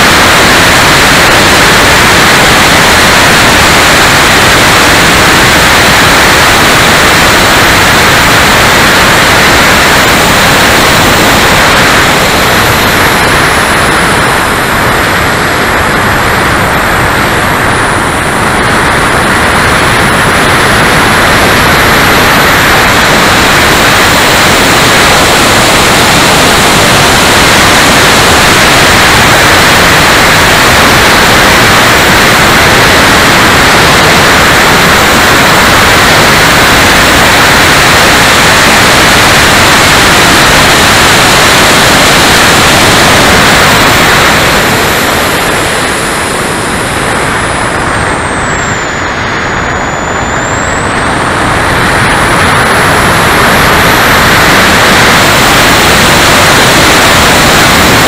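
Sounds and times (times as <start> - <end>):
electric ducted fan rushing: 0.0 - 58.0
thin high whine: 0.0 - 58.0.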